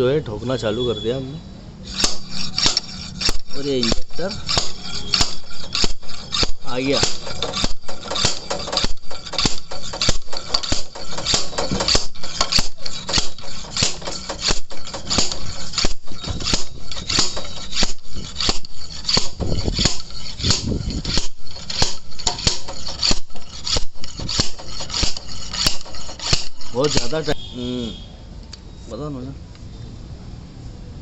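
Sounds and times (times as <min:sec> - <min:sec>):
hammer striking metal: 0:01.9 - 0:27.5.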